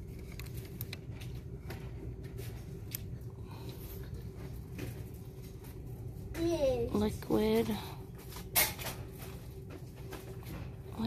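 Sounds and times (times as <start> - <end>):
store background hum: 0.0 - 11.0.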